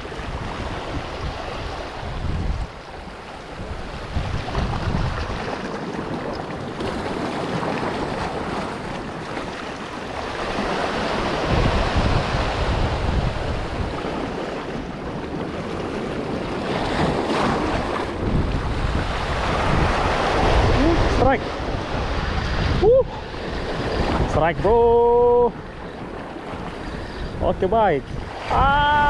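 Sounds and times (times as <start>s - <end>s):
waves washing over rocks: 0.0s - 29.0s
wind buffeting microphone: 0.0s - 29.0s.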